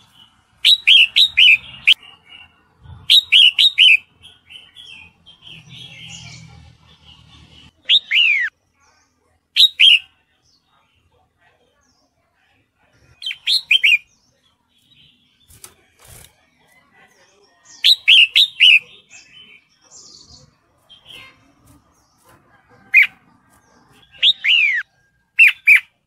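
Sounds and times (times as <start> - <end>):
bird chirping calls: 0.0 - 26.0.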